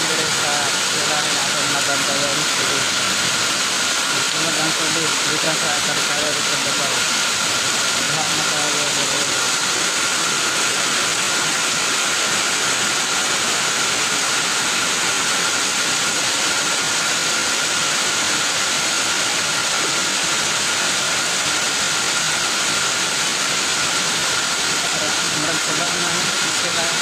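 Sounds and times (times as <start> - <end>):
floodwater running over ground: 0.0 - 27.0
heavy rain pouring: 0.0 - 27.0.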